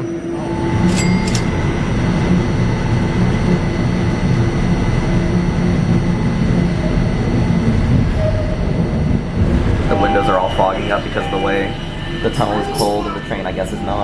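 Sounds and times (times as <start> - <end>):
faint high whine: 0.0 - 14.0
low hum: 0.0 - 14.0
train rumble in tunnel: 0.0 - 14.0.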